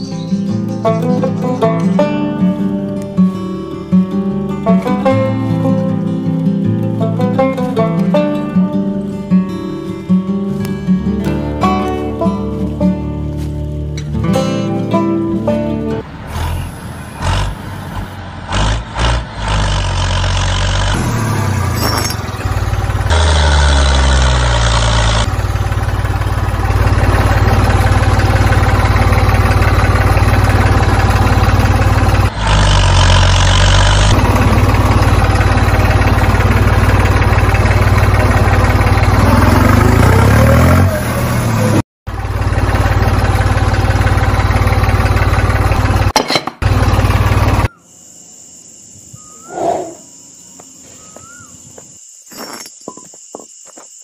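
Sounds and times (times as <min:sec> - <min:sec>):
tractor engine revving: 0:00.9 - 0:47.7.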